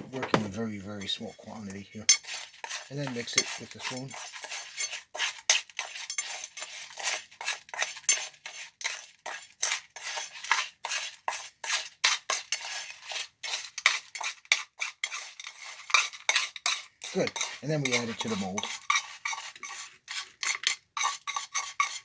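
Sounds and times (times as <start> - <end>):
spoon scraping gritty concrete mix: 0.0 - 22.0.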